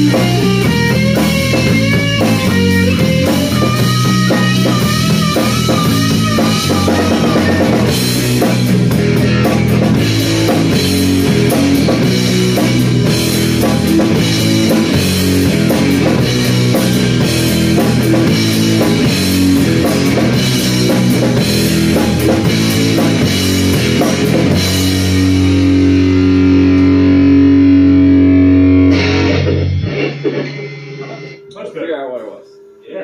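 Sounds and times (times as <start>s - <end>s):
electric guitar: 0.0s - 31.9s
drum kit: 0.0s - 32.3s.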